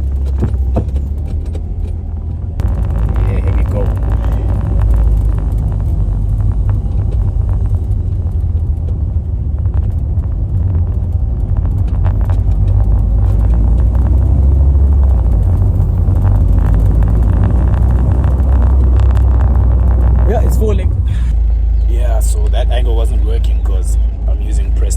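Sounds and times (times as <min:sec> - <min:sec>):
car engine rumbling while driving: 0:00.0 - 0:24.9.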